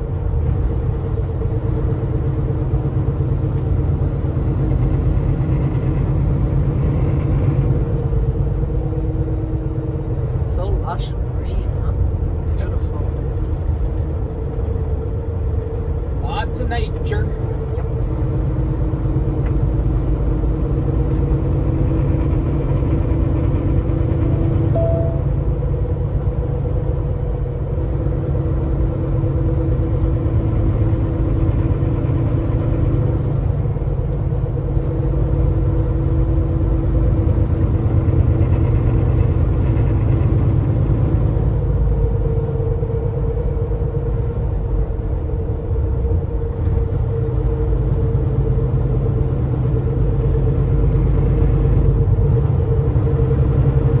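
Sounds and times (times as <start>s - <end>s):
road rumble: 0.0s - 54.0s
truck engine drone: 0.0s - 54.0s.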